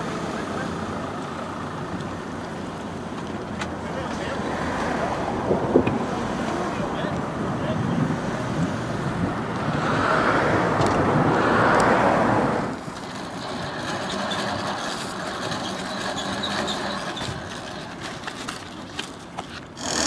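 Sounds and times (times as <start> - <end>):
engine noise: 0.0 - 20.0.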